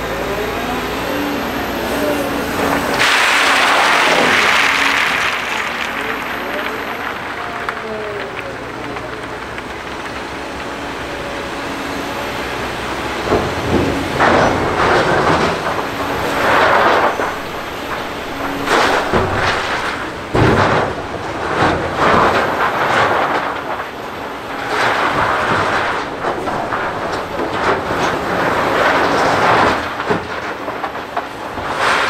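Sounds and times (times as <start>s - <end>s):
material handler engine running: 0.0s - 32.0s.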